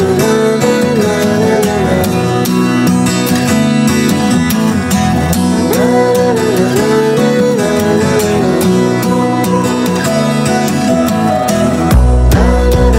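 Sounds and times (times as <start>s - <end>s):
background music with guitar: 0.0s - 12.9s.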